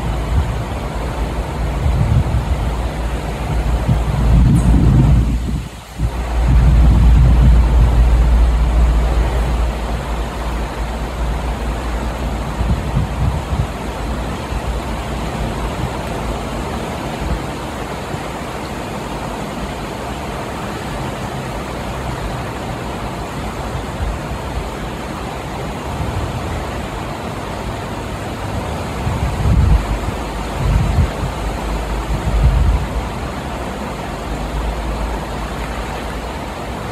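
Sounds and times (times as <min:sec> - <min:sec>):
fast-flowing river rushing: 0:00.0 - 0:36.9
wind rumble on microphone: 0:00.0 - 0:36.9.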